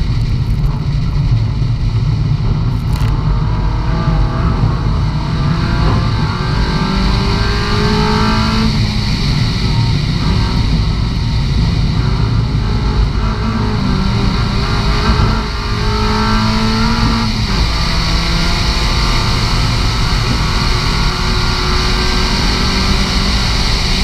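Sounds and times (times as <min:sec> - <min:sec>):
car engine racing at high revs: 0:00.0 - 0:24.0.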